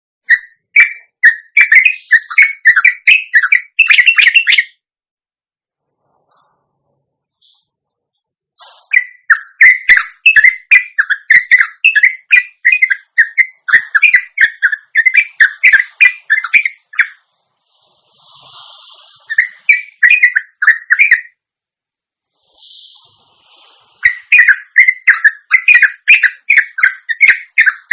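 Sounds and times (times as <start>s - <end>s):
bird chattering song: 0.2s - 4.8s, 6.2s - 17.2s, 18.1s - 21.4s, 22.4s - 27.9s.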